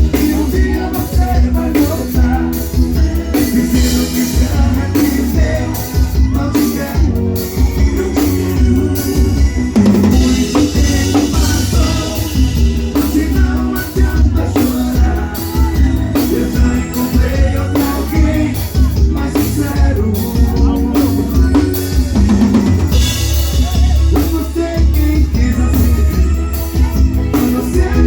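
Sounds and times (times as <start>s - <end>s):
bass drum beat: 0.0s - 28.0s
live band playing: 0.0s - 28.0s.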